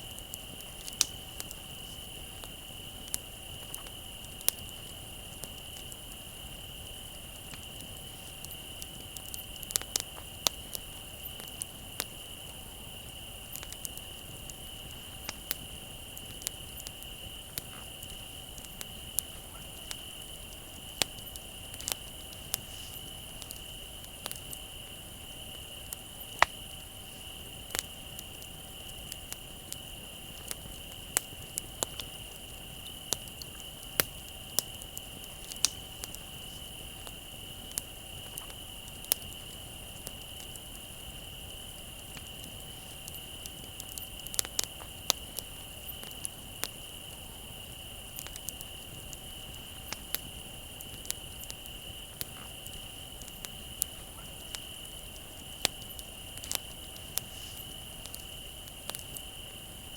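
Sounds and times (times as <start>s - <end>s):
bonfire crackling and popping: 0.0s - 59.9s
crickets trilling: 0.0s - 59.9s.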